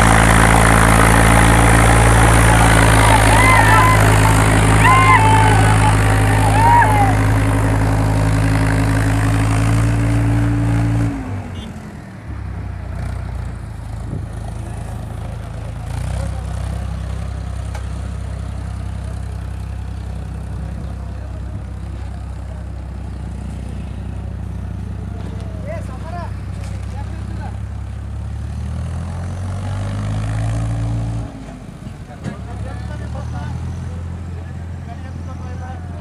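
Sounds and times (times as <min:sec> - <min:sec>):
tractor diesel engine running: 0:00.0 - 0:30.4.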